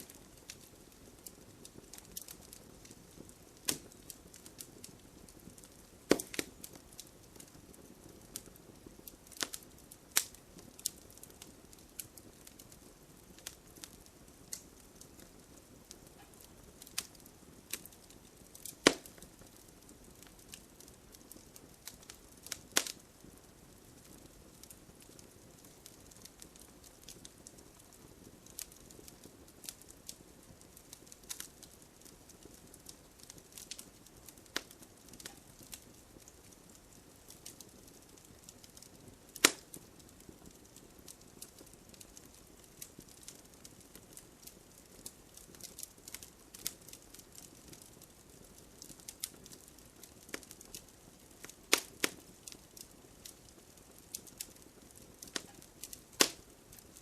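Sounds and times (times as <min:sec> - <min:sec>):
soft hiss: 0:00.0 - 0:57.0
wood fire crackling: 0:00.0 - 0:57.0.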